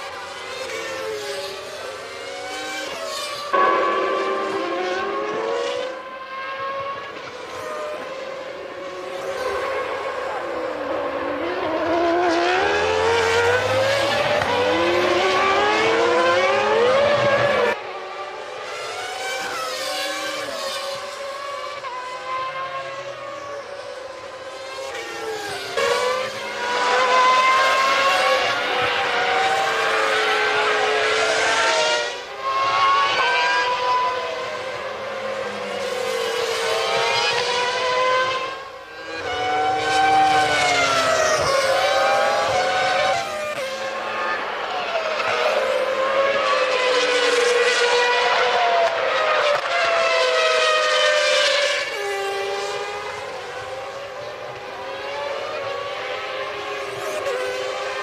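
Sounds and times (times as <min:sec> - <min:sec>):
racing car engines passing: 0:00.0 - 0:58.0.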